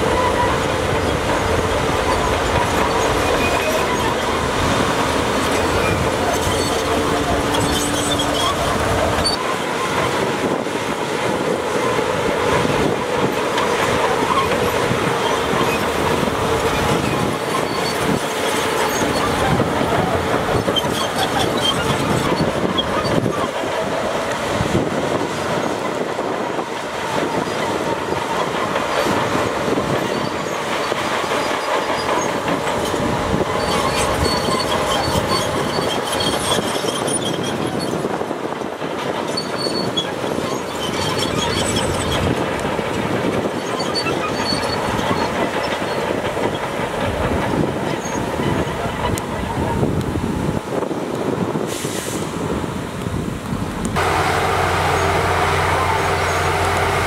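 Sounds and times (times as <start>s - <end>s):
bulldozer diesel engine running: 0.0s - 50.4s, 53.6s - 57.0s
metallic clatter of steel tracks: 0.0s - 57.0s.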